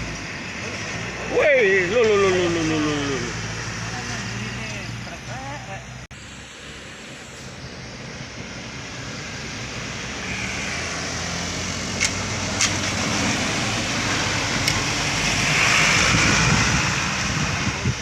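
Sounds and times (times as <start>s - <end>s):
truck engine and tyre noise: 0.0s - 18.0s.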